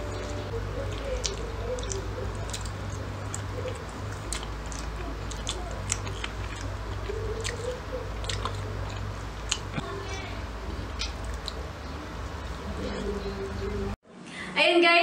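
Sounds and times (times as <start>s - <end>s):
people chewing with wet mouth sounds: 0.0s - 14.0s
low steady hum: 0.0s - 14.7s.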